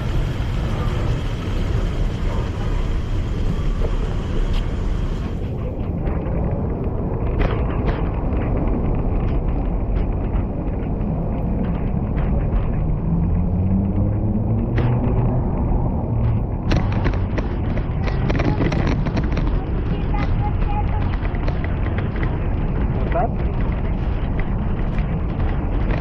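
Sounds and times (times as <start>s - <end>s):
stroller wheels rumbling on pavement: 0.0s - 26.0s.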